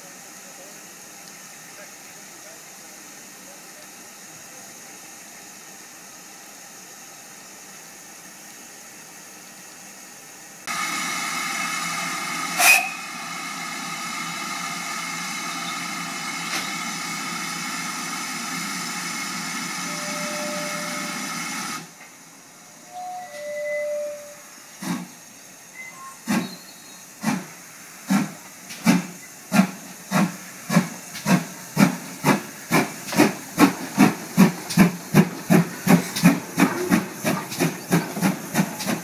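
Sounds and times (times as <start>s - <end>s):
steam locomotive hissing: 0.0s - 39.0s.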